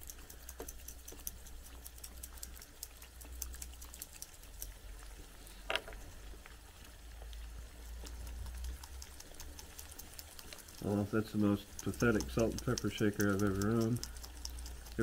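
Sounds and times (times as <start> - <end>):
eggs frying crackle: 0.0 - 15.0.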